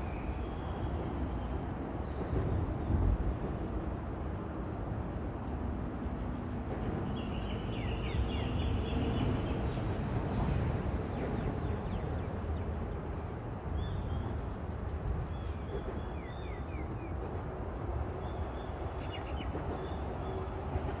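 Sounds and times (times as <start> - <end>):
motorway traffic rumble: 0.0 - 21.0.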